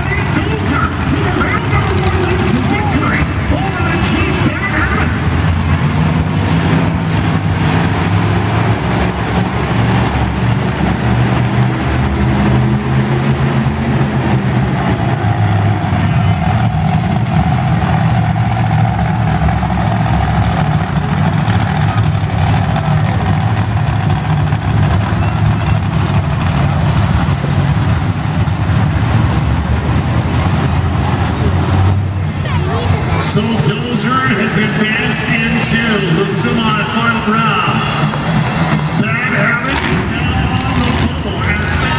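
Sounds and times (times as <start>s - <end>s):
monster truck engines revving: 0.0s - 41.9s.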